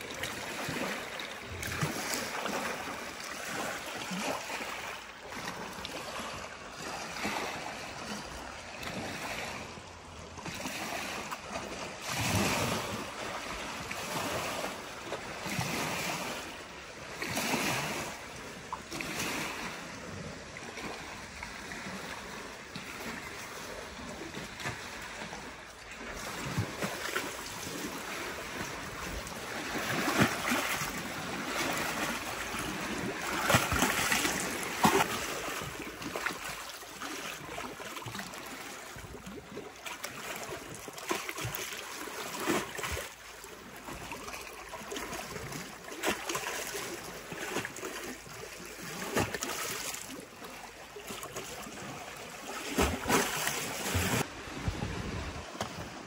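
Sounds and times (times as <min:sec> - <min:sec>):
waves lapping against stone shore: 0:00.0 - 0:56.0.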